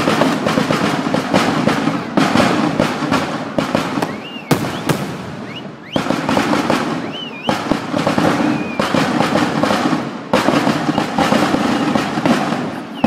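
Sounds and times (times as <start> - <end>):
firecrackers crackling: 0.0 - 13.0
fireworks whistles: 0.0 - 13.0.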